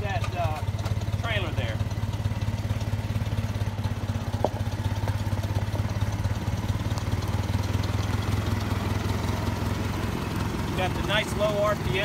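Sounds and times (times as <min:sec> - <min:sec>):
tractor engine running steadily: 0:00.0 - 0:12.0.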